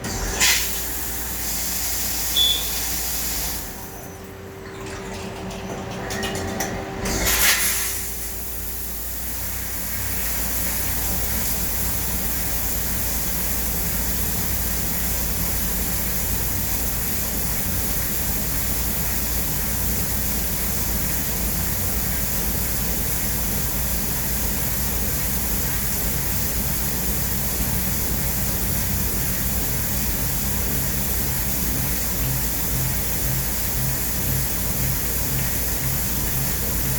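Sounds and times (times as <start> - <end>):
low machine hum: 0.0 - 36.9
coolant spraying hiss: 0.1 - 4.1, 7.1 - 36.9.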